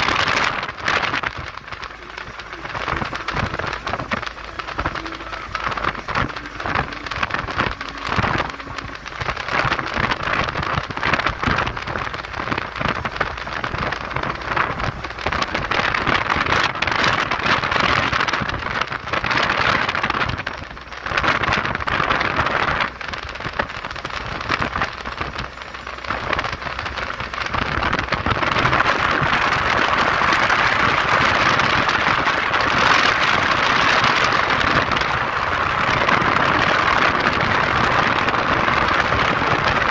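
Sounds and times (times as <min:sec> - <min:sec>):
vehicle road noise: 0:00.0 - 0:39.9.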